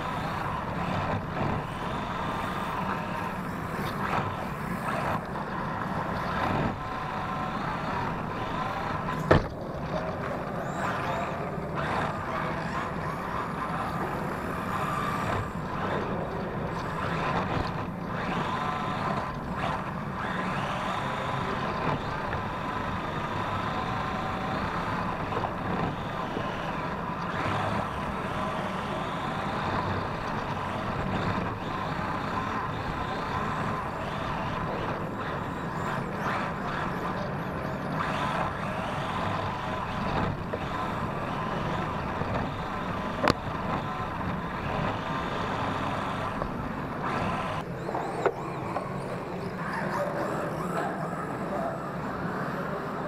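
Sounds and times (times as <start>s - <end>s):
electric rc car motor whine: 0.0s - 53.0s.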